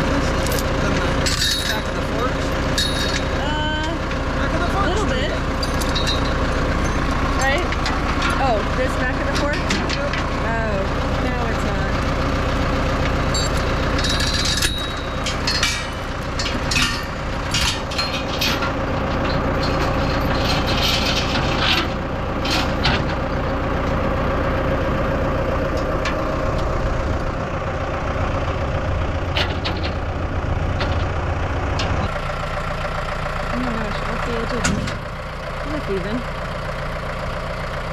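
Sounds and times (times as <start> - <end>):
heavy machine engine running: 0.0 - 37.9
metal clanks and rattles: 0.1 - 27.6, 28.6 - 37.8.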